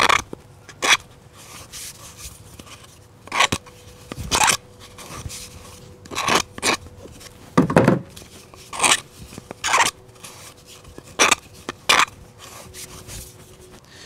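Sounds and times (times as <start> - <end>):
hand tool scraping plastic pipe: 0.0 - 7.4, 8.1 - 14.0.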